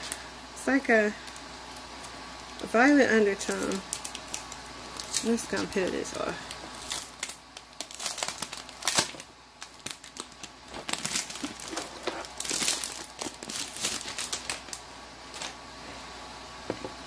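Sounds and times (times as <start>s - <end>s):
plastic wrapping crinkling: 1.2s - 15.6s.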